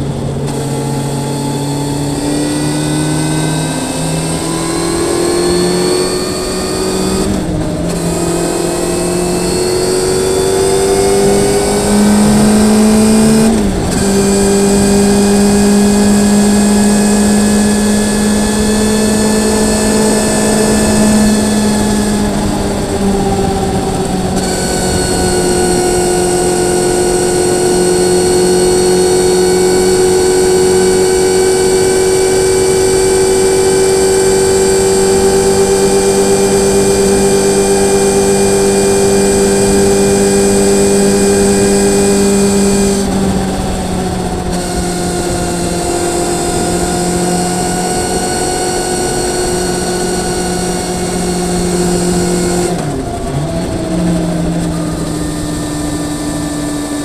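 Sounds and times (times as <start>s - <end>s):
motorcycle engine cruising: 0.0s - 57.0s
wind rush: 0.0s - 57.0s.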